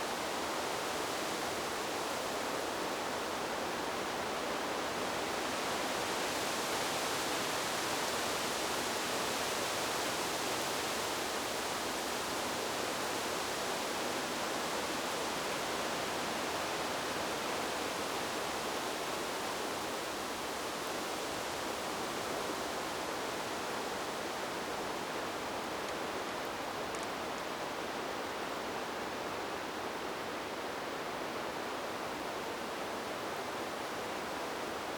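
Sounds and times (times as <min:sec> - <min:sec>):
wind through trees: 0:00.0 - 0:34.9.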